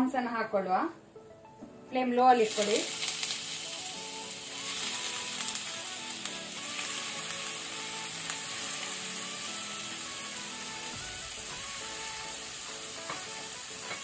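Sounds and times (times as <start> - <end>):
background music with held notes: 0.6 - 14.0
prawns sizzling in hot oil: 2.3 - 14.0.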